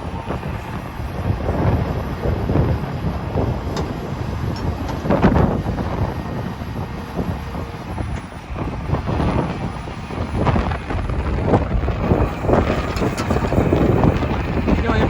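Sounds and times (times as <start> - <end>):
excavator diesel engine rumbling: 0.0 - 15.0
wind gusts on microphone: 0.0 - 15.0.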